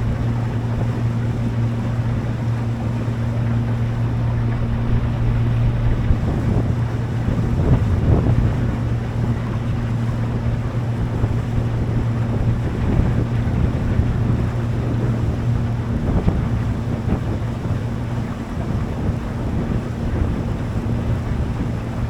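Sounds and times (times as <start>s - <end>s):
boat engine droning: 0.0s - 22.0s
water against hull: 0.0s - 22.0s
wind buffeting microphone: 0.0s - 22.0s.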